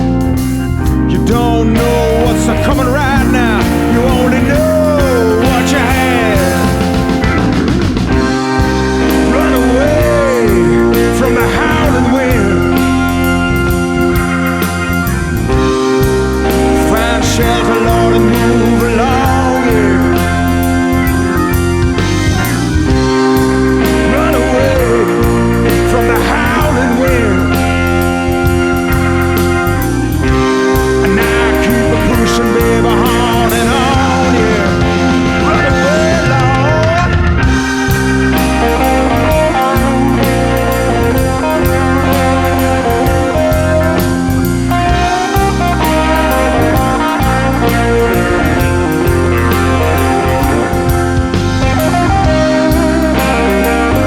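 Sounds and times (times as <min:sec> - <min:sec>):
blues-rock band playing: 0:00.0 - 0:54.0
electric guitar lead: 0:00.0 - 0:54.0.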